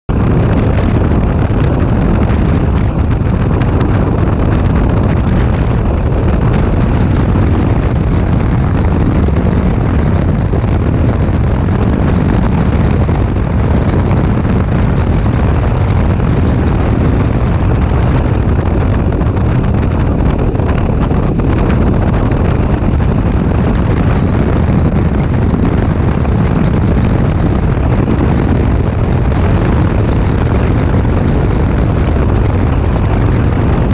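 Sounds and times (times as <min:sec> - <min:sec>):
motorcycle engine drone: 0:00.1 - 0:33.9
wind buffeting microphone: 0:00.1 - 0:33.9.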